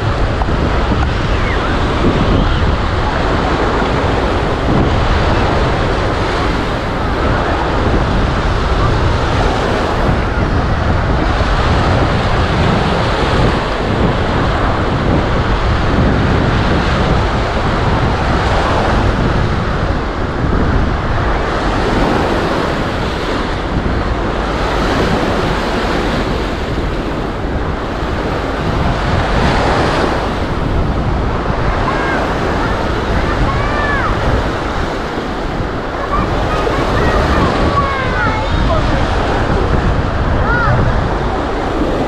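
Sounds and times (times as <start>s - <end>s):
sea waves washing onto beach: 0.0s - 42.0s
wind buffeting microphone: 0.0s - 42.0s.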